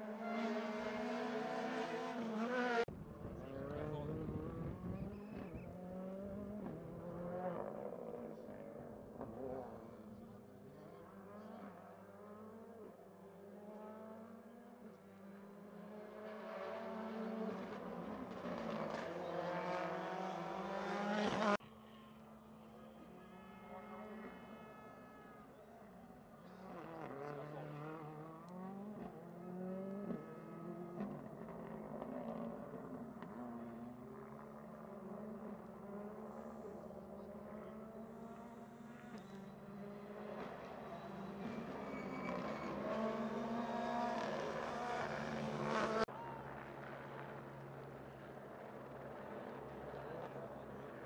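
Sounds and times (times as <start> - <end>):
rally car engine approaching: 0.0 - 23.2, 25.5 - 51.0.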